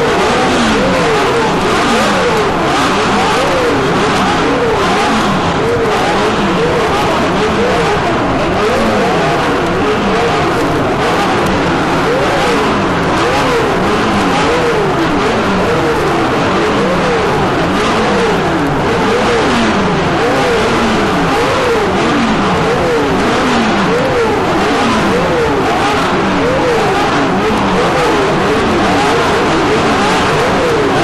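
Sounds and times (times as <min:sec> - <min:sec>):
racing car engines revving: 0:00.0 - 0:31.0.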